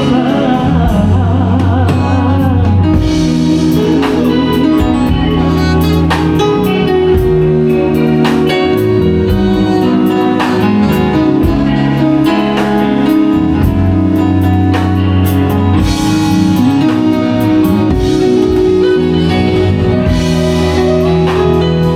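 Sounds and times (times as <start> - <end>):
drum kit beat: 0.0 - 21.9
guitar chords: 0.0 - 21.9.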